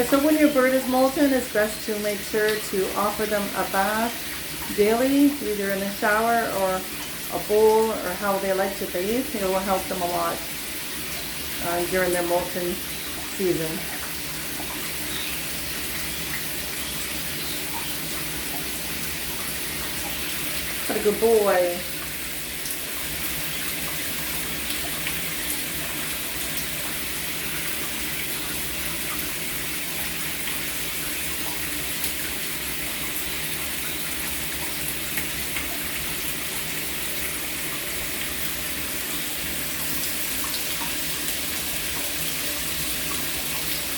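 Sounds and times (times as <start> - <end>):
shower spray splashing: 0.0 - 43.9.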